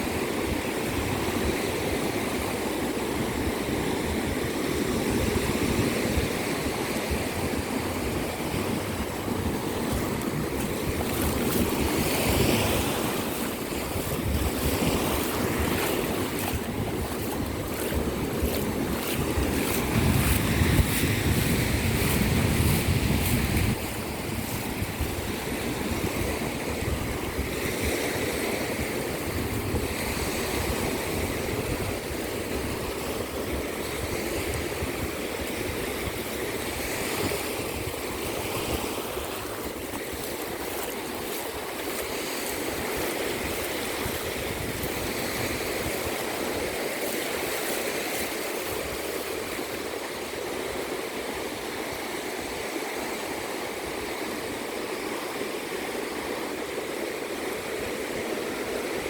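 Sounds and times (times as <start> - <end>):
wind buffeting microphone: 0.0 - 51.1
waves washing onto beach: 0.0 - 59.0.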